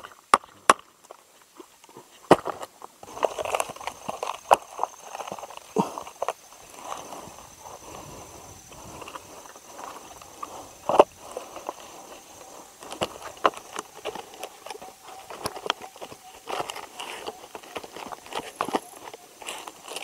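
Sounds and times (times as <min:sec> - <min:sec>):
wooden logs knocking together: 0:00.0 - 0:07.1, 0:08.7 - 0:20.0
bark rubbing: 0:03.0 - 0:20.0.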